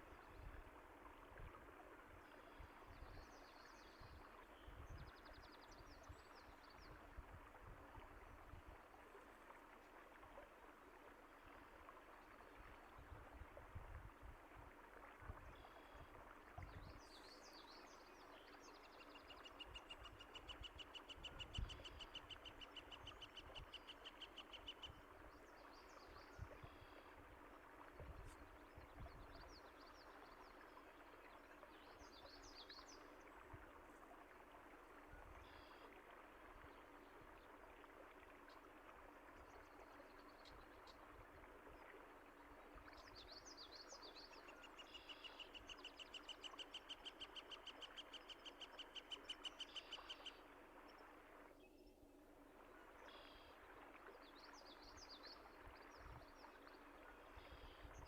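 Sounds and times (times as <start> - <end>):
running stream water: 0.0 - 58.0.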